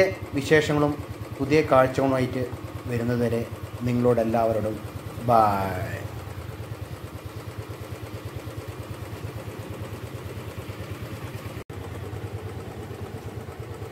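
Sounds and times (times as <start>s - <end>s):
scooter engine idling: 0.0s - 13.9s.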